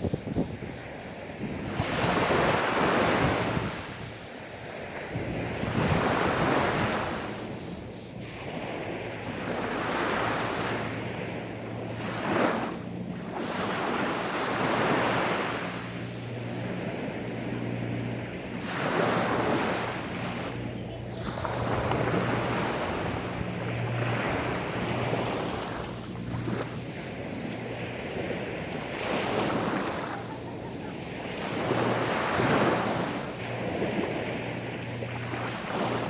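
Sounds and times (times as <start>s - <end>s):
sea waves washing up beach: 0.0s - 36.0s.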